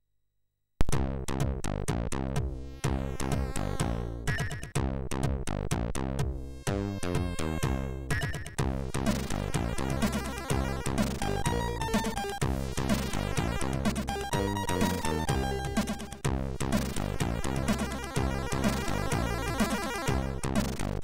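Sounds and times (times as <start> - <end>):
chiptune music: 1.9 - 5.4, 6.1 - 20.8.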